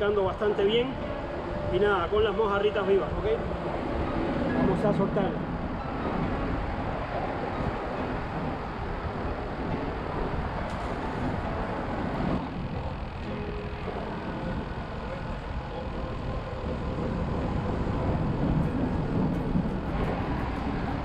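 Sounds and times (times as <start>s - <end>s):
low outdoor rushing noise: 0.0s - 21.0s.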